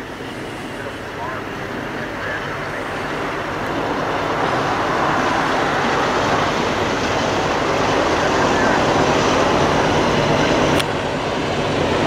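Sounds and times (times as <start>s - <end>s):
diesel locomotive engine: 0.0s - 12.0s
train wheel noise: 0.0s - 12.0s.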